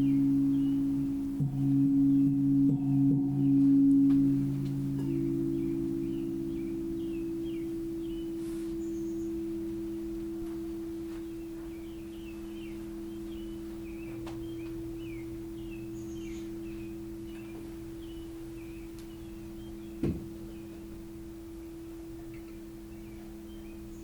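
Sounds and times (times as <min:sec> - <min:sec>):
faint high chirps: 0:00.0 - 0:24.0
singing bowl ringing: 0:00.0 - 0:24.0.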